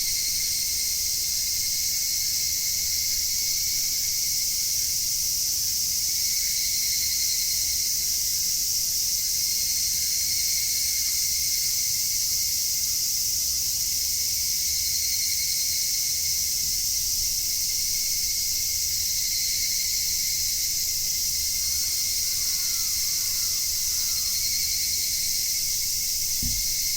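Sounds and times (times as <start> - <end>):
cicadas and insects calling: 0.0 - 26.9.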